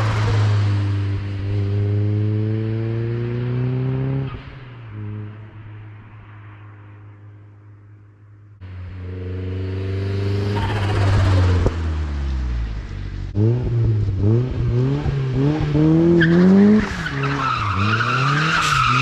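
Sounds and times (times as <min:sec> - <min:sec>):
car engine accelerating and revving: 0:00.0 - 0:06.1, 0:08.6 - 0:19.0.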